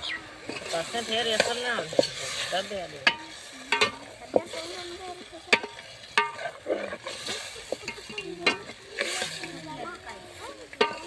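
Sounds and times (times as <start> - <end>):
food sizzling in a pan: 0.0 - 11.0
metal spoon stirring in a pan: 0.2 - 11.0.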